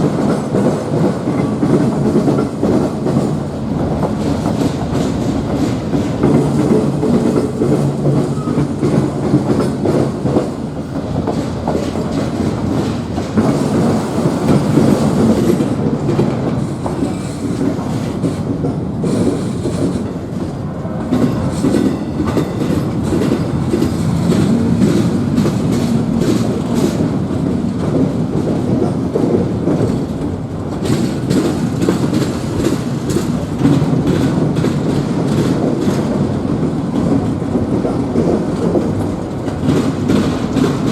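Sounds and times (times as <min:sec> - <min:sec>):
train cars rumbling past: 0:00.0 - 0:40.9
wheels clacking over rail joints: 0:00.0 - 0:40.9.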